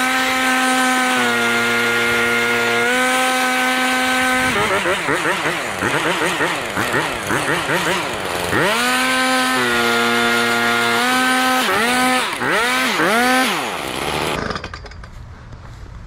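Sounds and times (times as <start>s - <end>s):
leaf blower engine revving: 0.0s - 14.6s.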